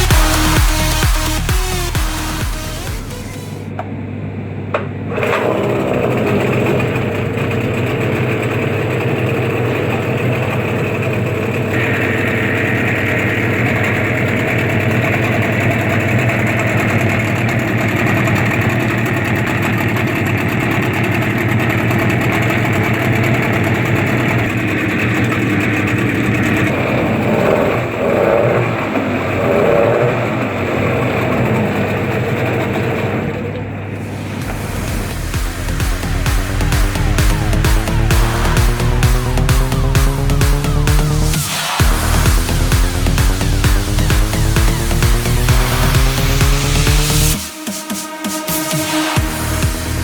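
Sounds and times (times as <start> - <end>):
outboard motor running: 0.0 - 3.8, 5.1 - 47.6, 48.9 - 50.0.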